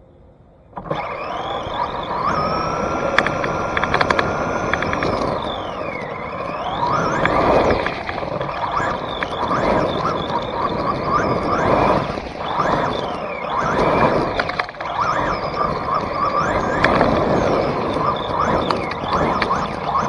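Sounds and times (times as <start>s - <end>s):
electric motor whining: 0.8s - 20.0s
sharp clicks: 0.8s - 20.0s
tyres sliding: 0.8s - 20.0s.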